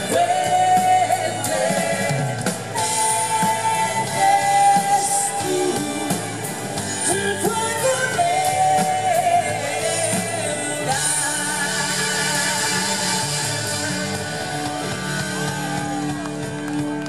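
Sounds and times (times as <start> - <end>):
woman singing: 0.0 - 14.2
drums: 0.0 - 17.0
electric guitar: 0.0 - 17.0
saxophone: 0.0 - 17.0.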